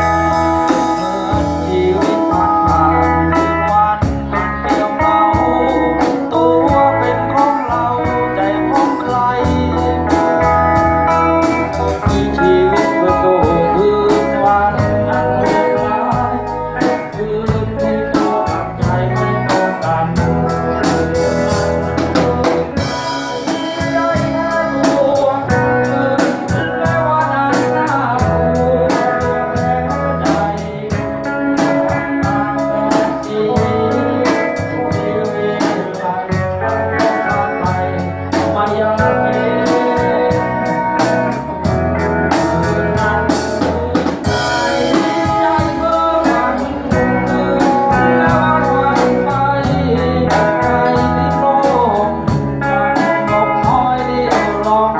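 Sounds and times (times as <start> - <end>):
keyboard playing organ sounds: 0.0 - 54.9
live band music: 0.0 - 54.9.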